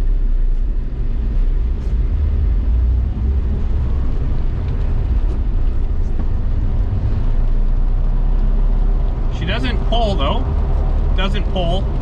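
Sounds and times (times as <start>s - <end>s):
car engine and drivetrain drone: 0.0s - 12.0s
tire noise on road: 0.0s - 12.0s.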